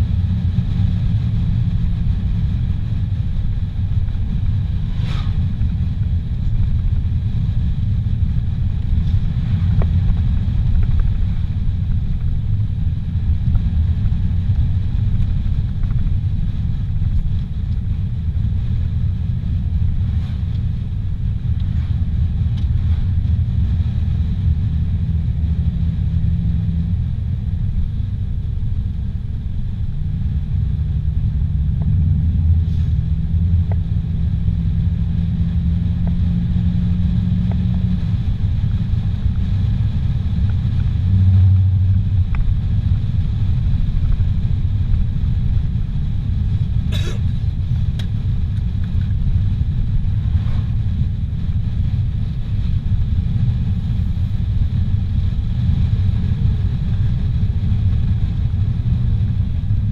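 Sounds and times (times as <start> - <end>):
car engine and tyre drone: 0.0 - 59.9.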